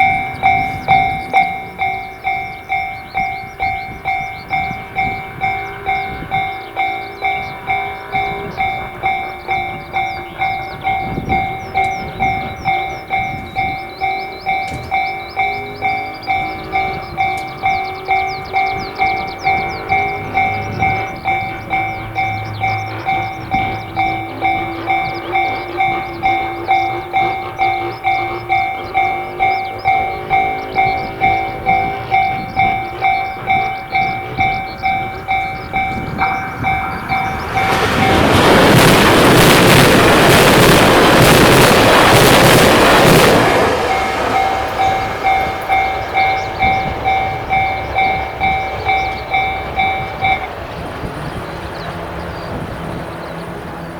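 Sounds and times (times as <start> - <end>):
level crossing bell ringing: 0.0 - 39.8, 42.8 - 50.6
train passing: 0.0 - 53.9.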